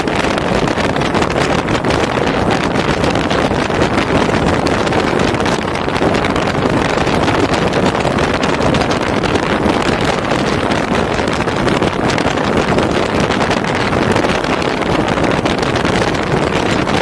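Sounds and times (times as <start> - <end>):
car road and wind noise: 0.0 - 17.0
wind buffeting microphone: 0.0 - 17.0.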